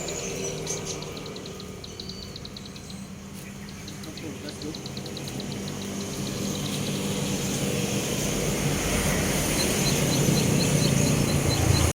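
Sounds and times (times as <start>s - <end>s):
motor engine droning: 0.0s - 12.0s.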